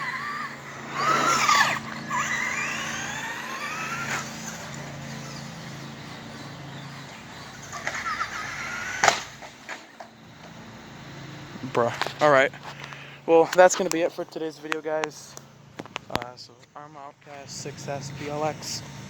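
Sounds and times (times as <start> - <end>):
electric motor whining: 0.0 - 16.2.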